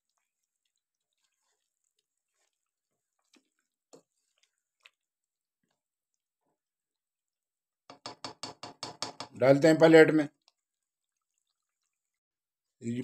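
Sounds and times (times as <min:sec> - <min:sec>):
spoon stirring thick gravy: 0:00.0 - 0:12.7.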